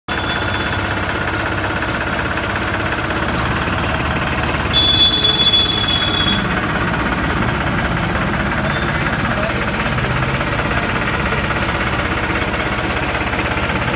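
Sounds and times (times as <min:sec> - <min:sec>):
tractor diesel engine idling: 0:00.1 - 0:13.9.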